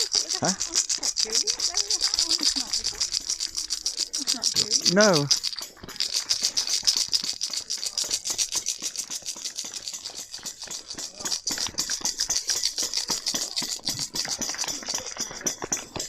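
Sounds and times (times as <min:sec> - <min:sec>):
maraca rattling: 0:00.0 - 0:16.0.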